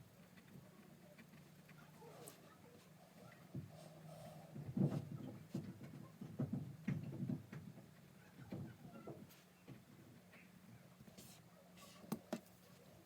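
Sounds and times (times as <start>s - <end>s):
soft knocks and handling noises: 0.3s - 12.9s.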